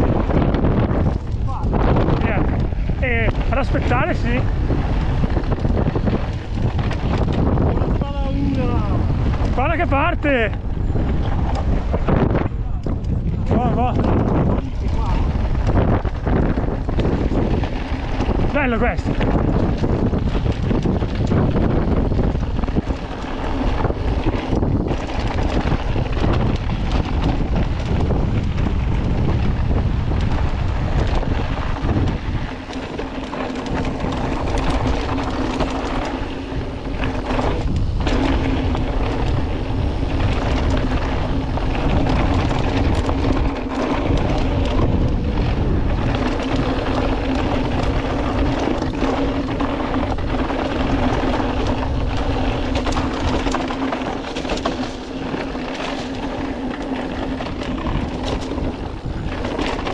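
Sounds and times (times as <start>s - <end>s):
bike tyre and trail noise: 0.0s - 59.9s
wind buffeting microphone: 0.0s - 59.9s.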